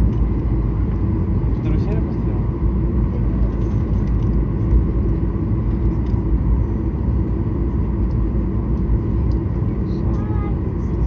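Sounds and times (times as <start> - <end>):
aircraft cabin low rumble: 0.0 - 11.0.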